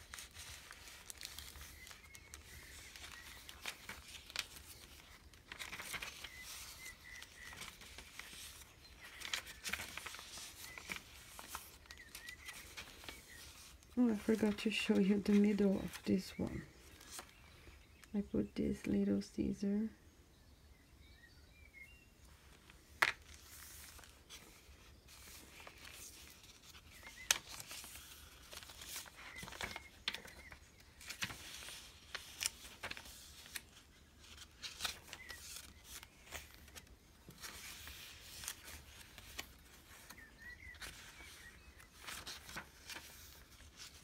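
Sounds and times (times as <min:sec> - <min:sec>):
paper pages rustling: 0:00.0 - 0:18.1, 0:22.3 - 0:44.0.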